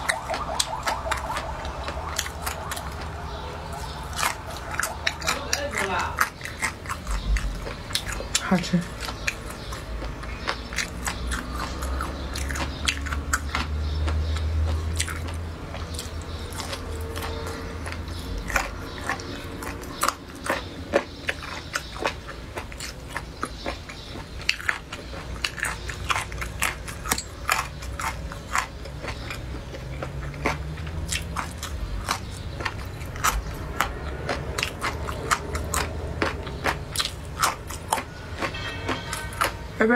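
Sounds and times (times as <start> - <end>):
sharp crunchy clicks: 0.0 - 39.7
chewing and biting mouth sounds: 0.0 - 39.9.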